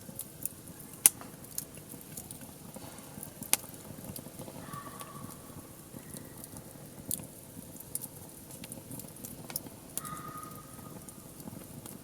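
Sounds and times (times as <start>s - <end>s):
low rumble of flames: 0.0s - 12.0s
wood fire crackling: 0.0s - 12.0s.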